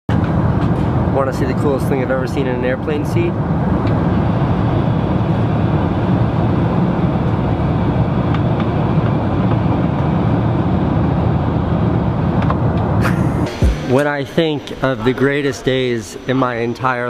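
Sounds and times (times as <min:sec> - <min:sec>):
airliner cabin rumble: 0:00.1 - 0:16.6.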